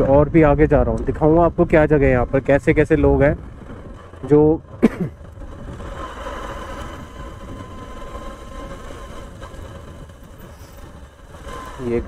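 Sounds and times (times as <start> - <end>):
motorbike engine running: 0.0 - 12.0
wind and road noise: 0.0 - 12.0.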